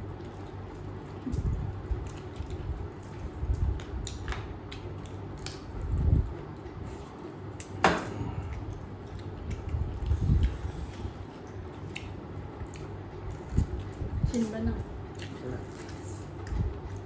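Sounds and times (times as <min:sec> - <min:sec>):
chewing and mouth noises: 0:00.0 - 0:17.0.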